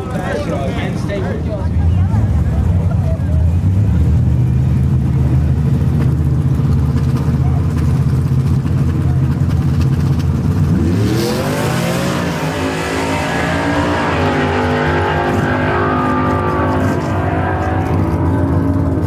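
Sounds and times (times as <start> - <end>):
truck engine revving: 1.8 - 19.0.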